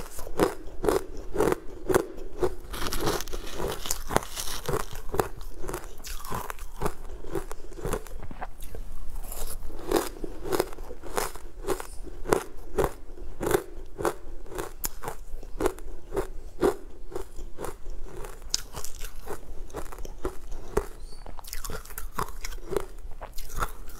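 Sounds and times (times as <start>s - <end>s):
chewing dry crunchy chunks: 0.0s - 23.9s.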